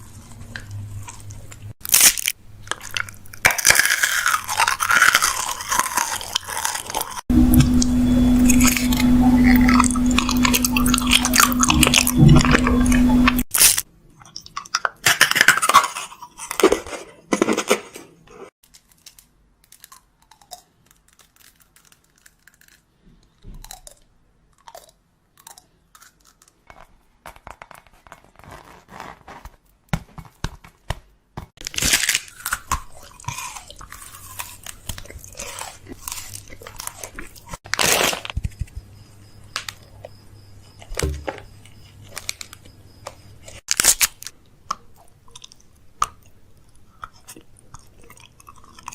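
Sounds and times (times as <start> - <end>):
person chewing crunchy food: 0.0 - 17.8, 18.6 - 29.5, 31.6 - 48.9.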